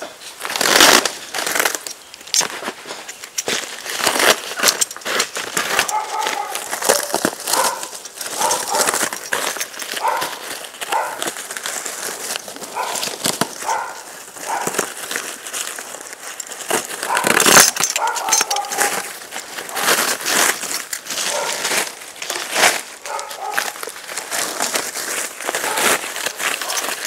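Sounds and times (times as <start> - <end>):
plastic wrap rustling: 0.0 - 27.0.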